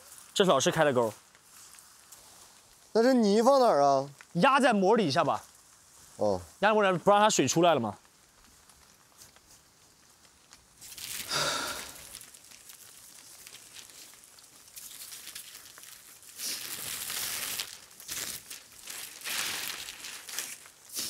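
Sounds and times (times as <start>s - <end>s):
plastic film rustling and crinkling: 0.0s - 21.0s.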